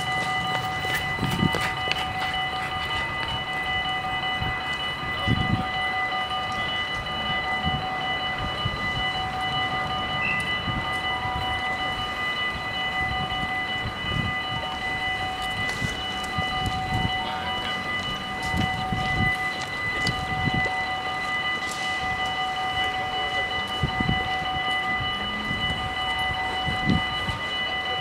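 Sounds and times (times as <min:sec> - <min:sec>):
high-pitched tones whining: 0:00.0 - 0:28.0.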